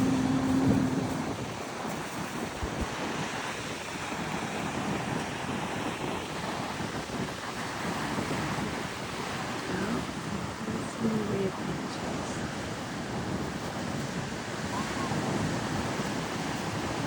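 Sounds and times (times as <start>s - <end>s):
ocean surf washing on beach: 0.0s - 17.0s
wind on microphone: 0.0s - 17.0s.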